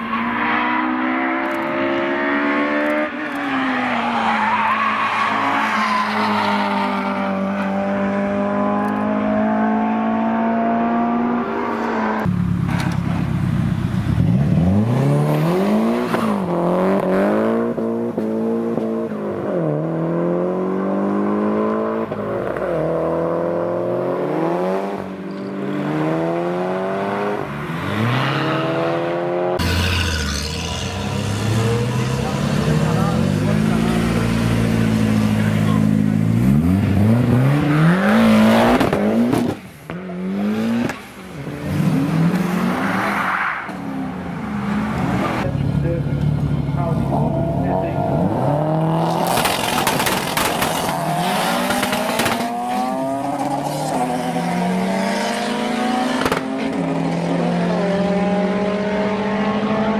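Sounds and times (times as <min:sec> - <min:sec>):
car engine at high revs: 0:00.0 - 0:05.5, 0:06.2 - 0:43.0, 0:43.7 - 0:59.9.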